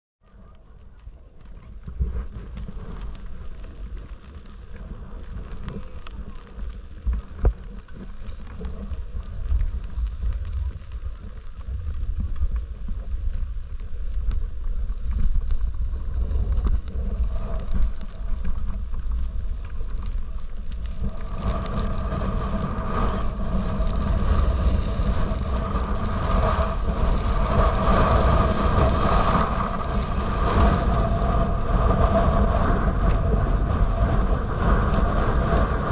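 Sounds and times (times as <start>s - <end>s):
wind rushing over microphone: 0.4s - 35.9s
snowboard scraping over snow: 1.9s - 35.9s.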